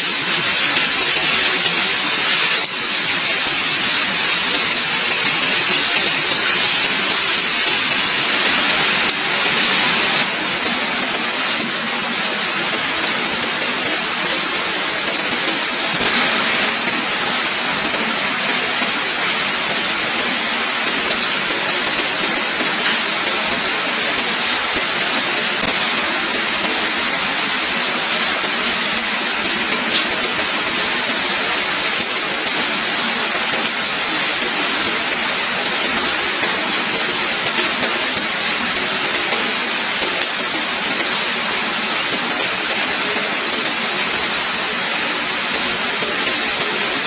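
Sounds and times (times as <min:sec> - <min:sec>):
heavy rain hissing: 0:00.0 - 0:47.0
sharp raindrops hitting close by: 0:00.0 - 0:47.0.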